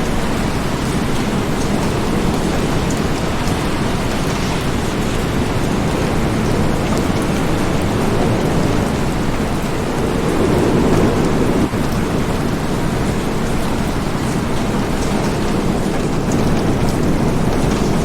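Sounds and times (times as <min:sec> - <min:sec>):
heavy rain falling: 0:00.0 - 0:18.0
low rumble of thunder: 0:00.0 - 0:18.0.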